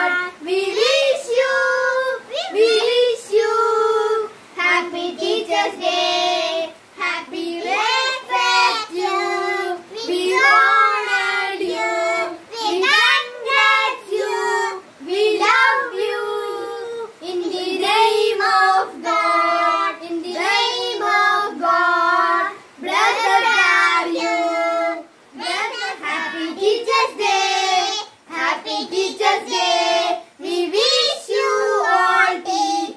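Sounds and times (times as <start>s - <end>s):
children singing: 0.0s - 32.9s.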